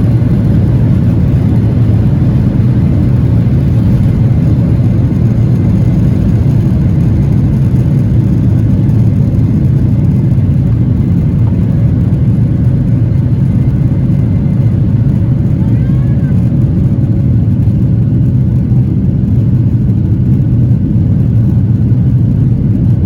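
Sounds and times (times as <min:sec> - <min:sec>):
jet engines rumbling in cabin: 0:00.0 - 0:23.0.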